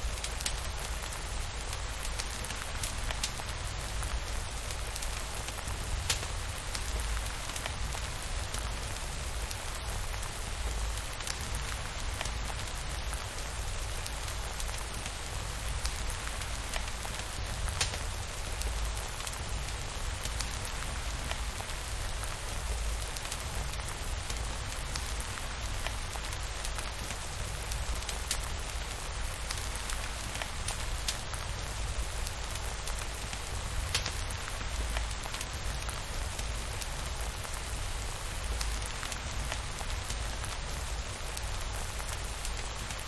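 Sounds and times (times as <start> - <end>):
rain drop ticks: 0.0 - 43.0
steady rainfall: 0.0 - 43.0.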